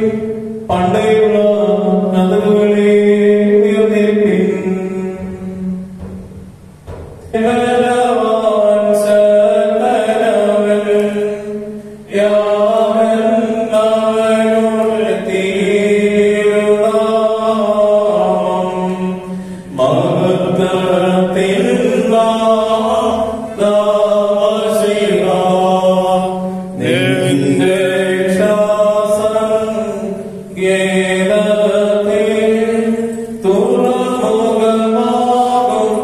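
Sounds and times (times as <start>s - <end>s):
voices chanting a hymn: 0.0s - 36.0s.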